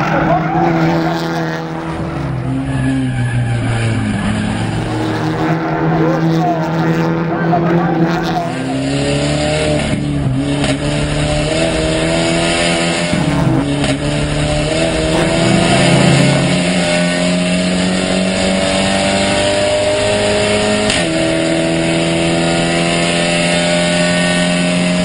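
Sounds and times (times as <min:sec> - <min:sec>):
race car engine at high revs: 0:00.0 - 0:25.0.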